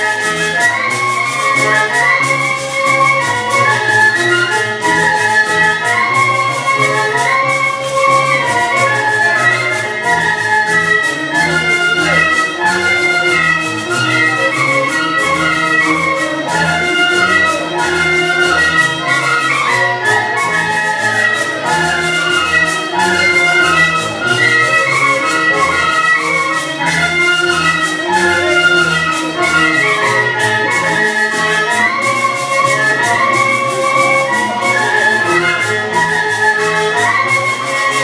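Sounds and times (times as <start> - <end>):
wind instruments dance music: 0.0 - 38.0.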